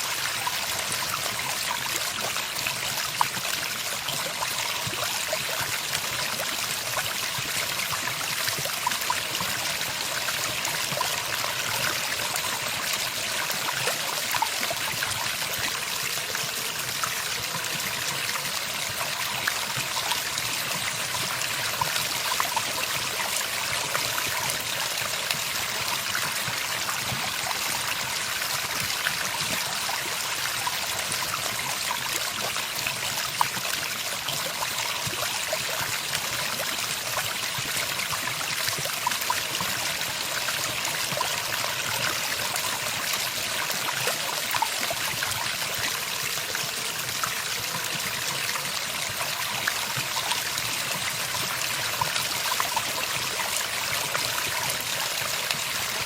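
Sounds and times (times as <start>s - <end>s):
trickling stream: 0.0s - 56.0s.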